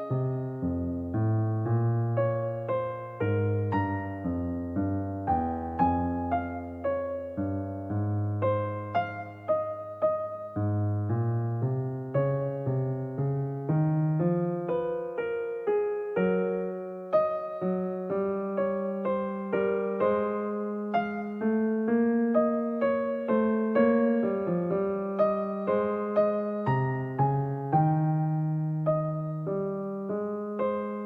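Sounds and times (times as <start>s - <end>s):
gentle piano tune: 0.0s - 31.0s.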